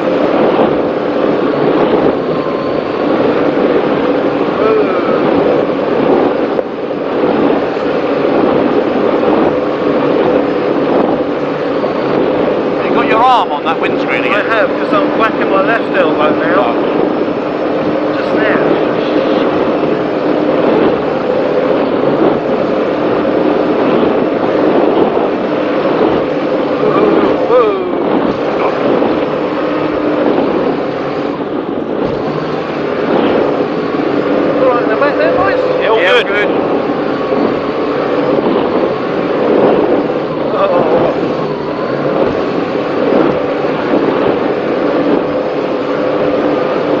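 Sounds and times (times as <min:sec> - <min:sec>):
powerboat engine drone: 0:00.0 - 0:47.0
rushing wind and water: 0:00.0 - 0:47.0.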